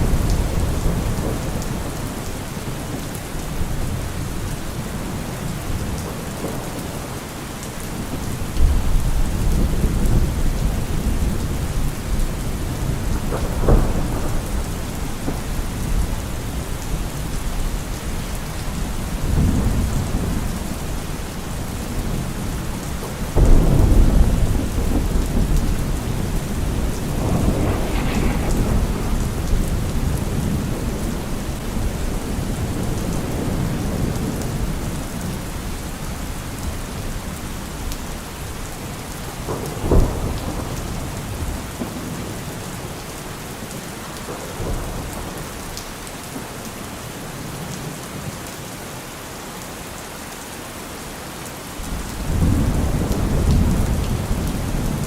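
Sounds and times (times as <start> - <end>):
thunder: 0.0 - 7.2, 7.9 - 35.7, 36.6 - 46.5, 51.9 - 55.0
heavy rain on a car roof: 0.0 - 55.0.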